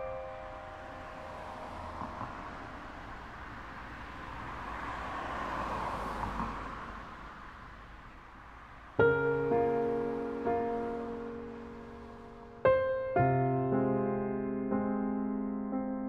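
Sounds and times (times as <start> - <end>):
car passing by: 0.0 - 15.4.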